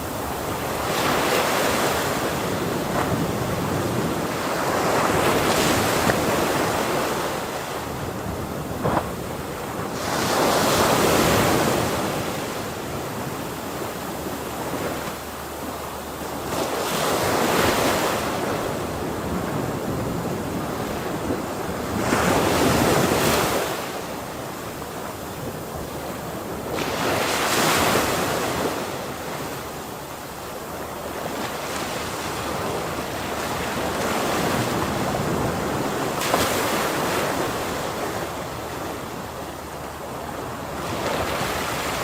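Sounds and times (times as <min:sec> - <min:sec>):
ocean waves breaking: 0:00.0 - 0:42.0.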